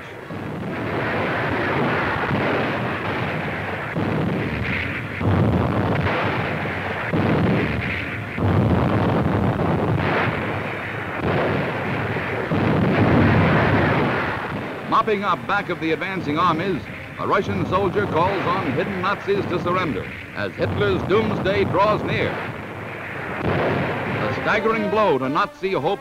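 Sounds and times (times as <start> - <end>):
artillery fire and explosions: 0.0 - 26.0.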